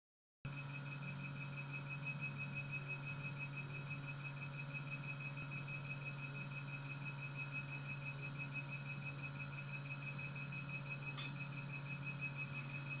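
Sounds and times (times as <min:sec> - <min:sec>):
laser machine low hum: 0:00.5 - 0:13.0.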